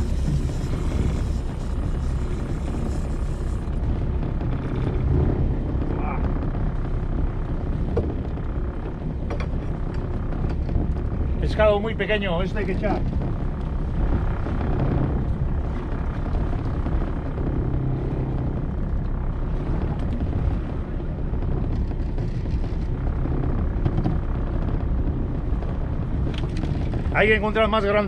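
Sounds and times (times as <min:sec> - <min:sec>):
boat engine idling: 0:00.0 - 0:28.0
wind on microphone: 0:00.0 - 0:28.0.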